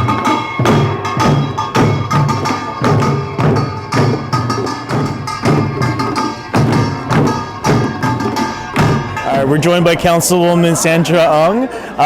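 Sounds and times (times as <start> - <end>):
ringing metal gongs: 0.0 - 10.0
drum strikes: 0.0 - 10.2.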